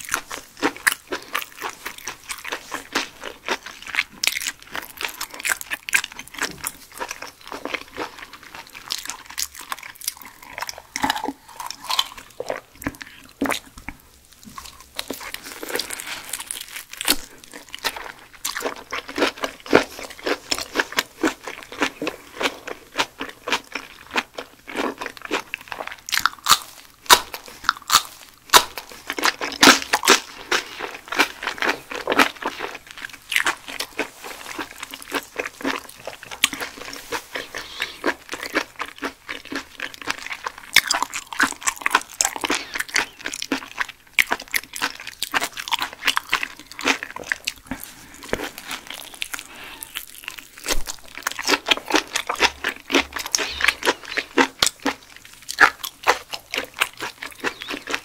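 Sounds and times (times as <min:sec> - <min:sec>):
person chewing raw fish: 0:00.0 - 0:58.0.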